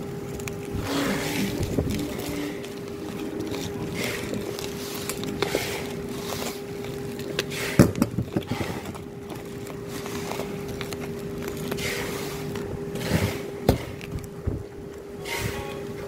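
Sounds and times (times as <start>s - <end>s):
bubble wrap crinkling: 0.0s - 16.0s
steady hum: 0.0s - 16.0s.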